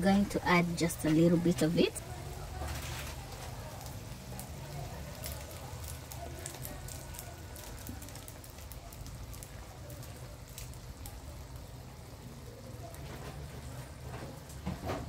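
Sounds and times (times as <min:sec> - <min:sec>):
mushrooms sizzling in a pan: 0:00.0 - 0:14.8.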